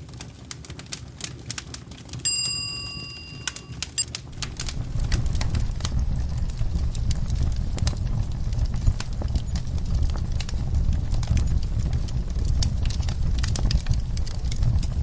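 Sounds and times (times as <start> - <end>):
wood fire pops and snaps: 0.0 - 2.3, 3.6 - 15.0
low rumble of flames: 0.0 - 15.0.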